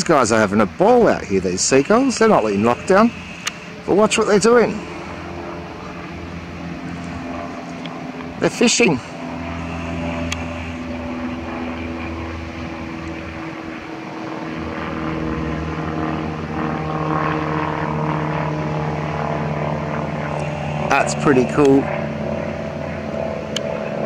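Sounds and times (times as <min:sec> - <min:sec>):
engine drone: 0:00.0 - 0:24.0.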